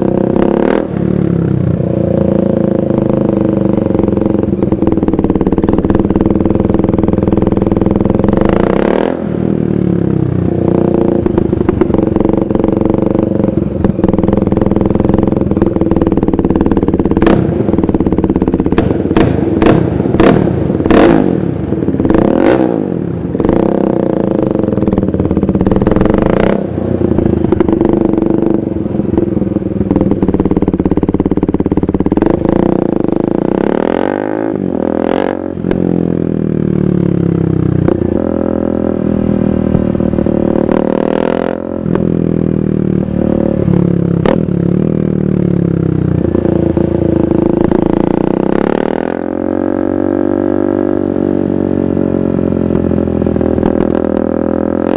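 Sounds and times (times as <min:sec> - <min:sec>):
motorcycle engine revving: 0:00.0 - 0:54.9
sharp exhaust cracks: 0:01.7 - 0:09.4, 0:10.3 - 0:36.0, 0:37.1 - 0:49.2, 0:52.4 - 0:54.9.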